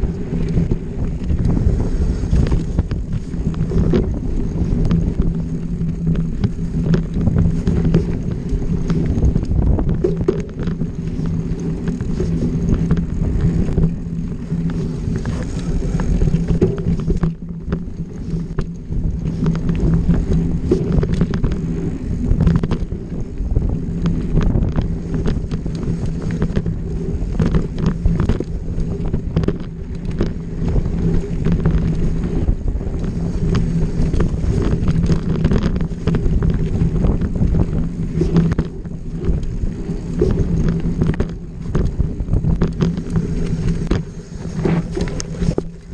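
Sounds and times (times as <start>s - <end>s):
dirt bike engine running: 0.0s - 45.9s
wind buffeting microphone: 0.0s - 45.9s.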